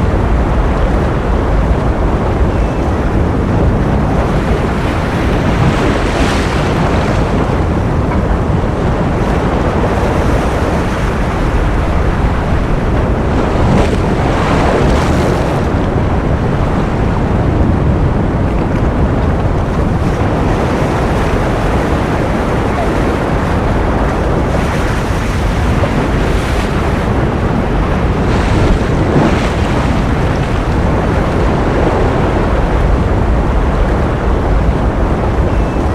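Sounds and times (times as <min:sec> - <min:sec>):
ocean waves washing: 0:00.0 - 0:35.9.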